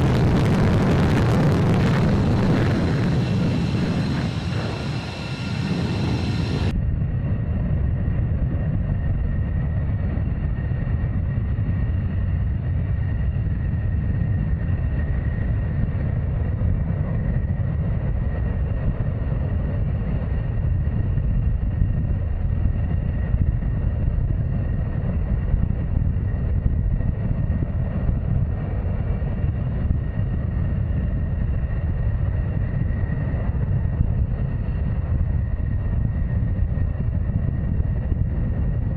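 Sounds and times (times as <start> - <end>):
fighter jet engine rumble: 0.0 - 38.9
high engine whine: 0.0 - 38.9.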